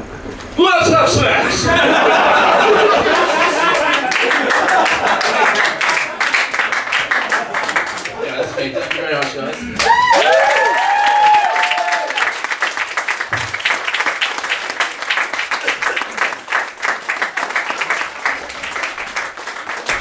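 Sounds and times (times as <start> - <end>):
audience applauding: 1.8 - 20.0.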